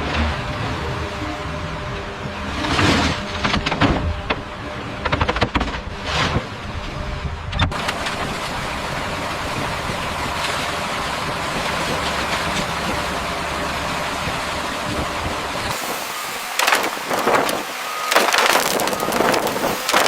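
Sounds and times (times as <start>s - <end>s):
construction machinery running: 0.0s - 20.0s.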